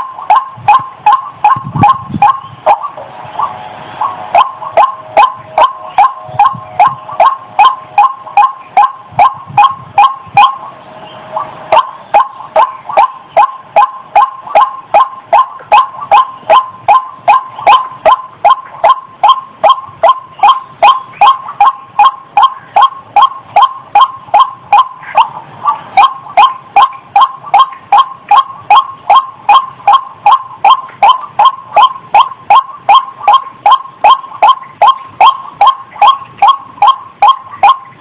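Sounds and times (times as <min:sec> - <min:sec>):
waterhen calling: 0:00.0 - 0:38.0.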